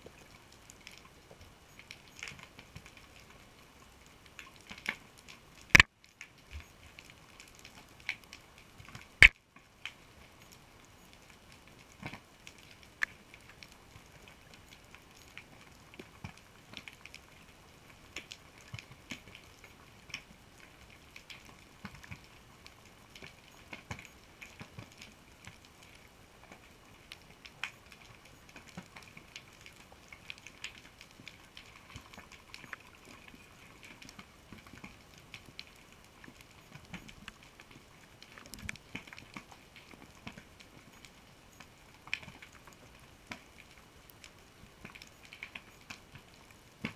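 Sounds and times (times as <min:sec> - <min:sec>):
sharp underwater clicks and crackles: 0:00.0 - 0:46.9.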